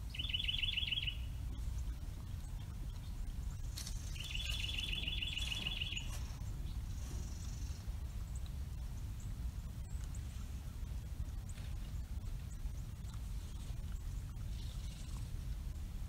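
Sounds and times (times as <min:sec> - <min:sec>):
songbird trilling: 0:00.0 - 0:15.4
steady low rumble: 0:00.0 - 0:16.0
faint high chirps: 0:00.1 - 0:10.3, 0:10.9 - 0:15.4.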